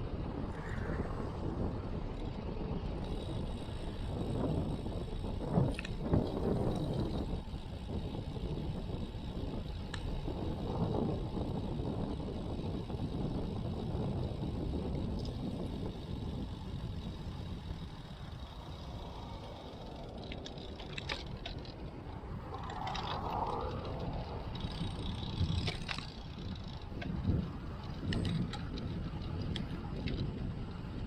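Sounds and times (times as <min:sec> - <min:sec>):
tyre-on-road rumble: 0:00.0 - 0:31.0
wind noise: 0:00.0 - 0:31.0.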